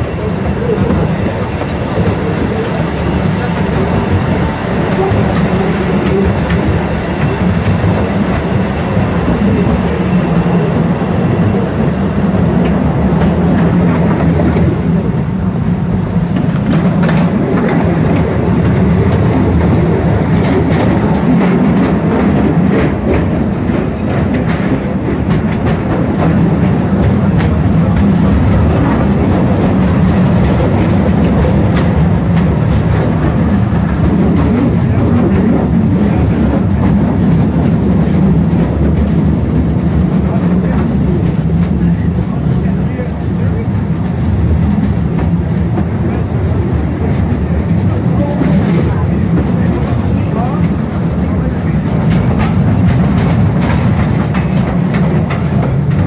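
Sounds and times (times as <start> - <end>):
rail clicks and clacks: 0.0 - 56.0
train rumbling through tunnel: 0.0 - 56.0.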